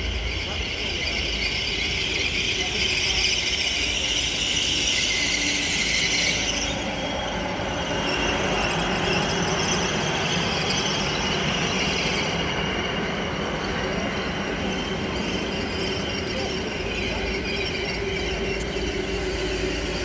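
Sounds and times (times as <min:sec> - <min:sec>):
train wheels rumbling on rails: 0:00.0 - 0:20.0
train wheels squealing: 0:00.0 - 0:20.0.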